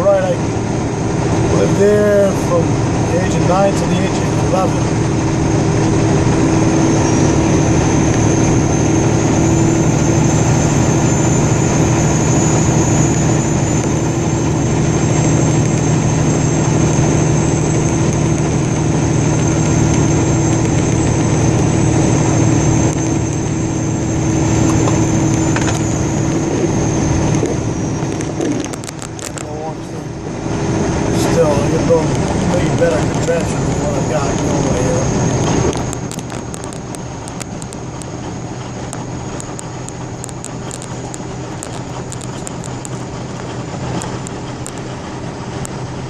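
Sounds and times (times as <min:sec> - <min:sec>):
high engine whine: 0:00.0 - 0:46.0
vehicle engine running: 0:00.0 - 0:46.0.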